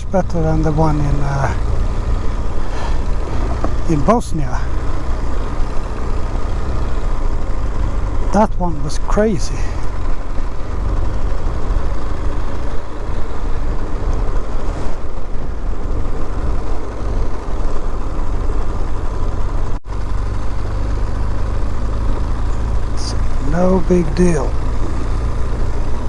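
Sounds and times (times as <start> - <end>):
wind and road noise: 0.0 - 26.0
motorcycle engine running: 0.1 - 26.0.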